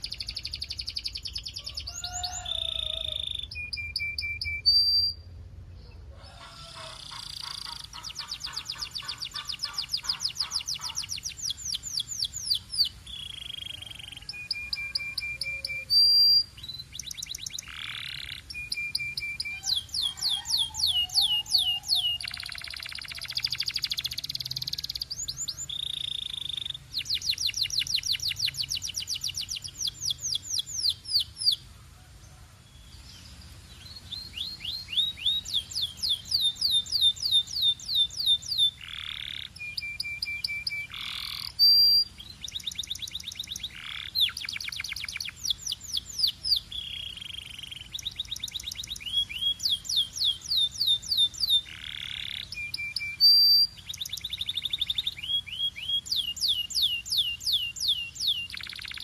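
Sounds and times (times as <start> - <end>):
canary singing trills: 0.0 - 31.8, 32.7 - 59.0.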